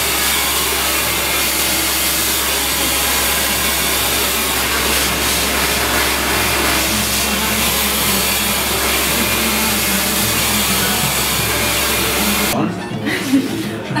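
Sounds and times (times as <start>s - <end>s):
hair dryer blowing: 0.0s - 13.4s.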